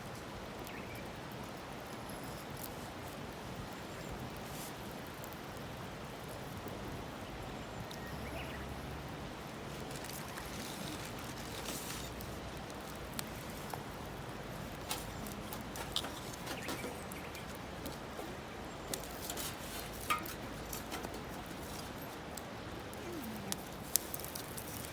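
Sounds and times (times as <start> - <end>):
bonfire hissing: 0.0 - 24.9
firewood crackling and popping: 0.0 - 24.9.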